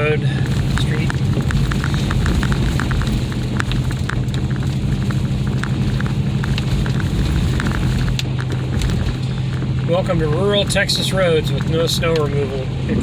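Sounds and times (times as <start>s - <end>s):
tyres crunching over ice: 0.0s - 12.6s
engine and tyres droning: 0.0s - 13.0s.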